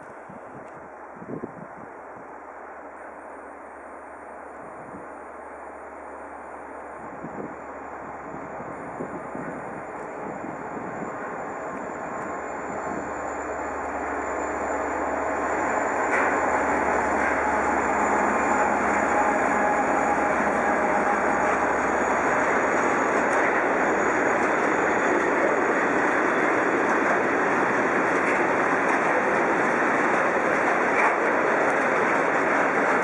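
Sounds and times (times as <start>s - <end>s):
diesel locomotive passing: 0.0s - 33.0s.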